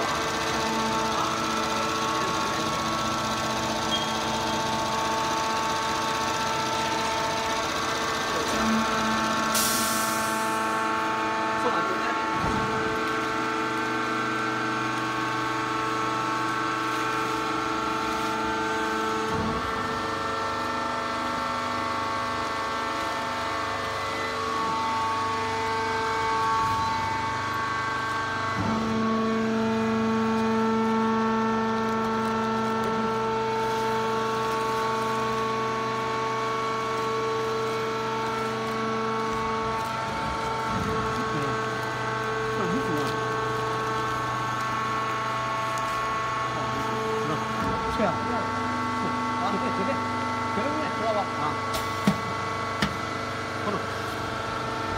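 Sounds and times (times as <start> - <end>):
baler machine humming and whining: 0.0 - 54.9.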